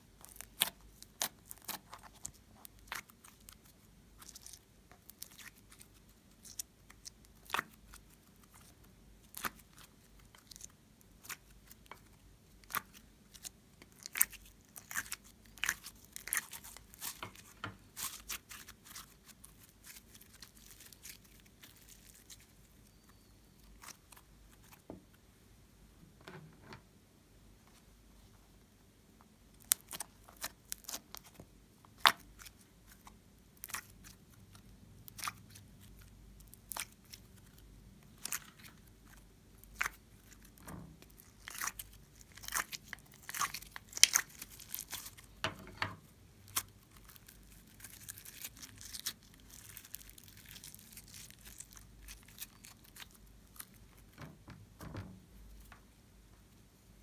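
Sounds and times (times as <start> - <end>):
sticky slime handling: 0.1 - 23.0, 29.6 - 55.0.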